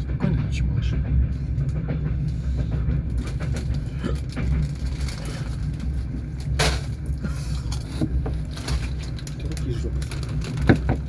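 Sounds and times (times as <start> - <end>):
train rumble: 0.0 - 11.0
wheels clacking over rail joints: 0.0 - 11.0.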